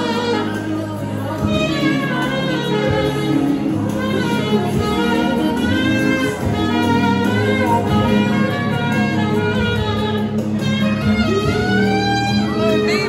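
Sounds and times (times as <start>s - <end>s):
low accompaniment: 0.0s - 13.0s
saxophone jazzy melody: 0.0s - 13.0s.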